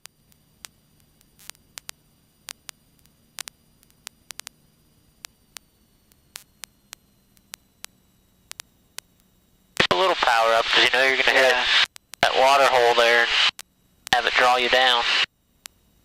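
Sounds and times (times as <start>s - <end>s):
faint steady hiss: 0.0s - 16.0s
radio static clicks and crackles: 0.0s - 16.0s.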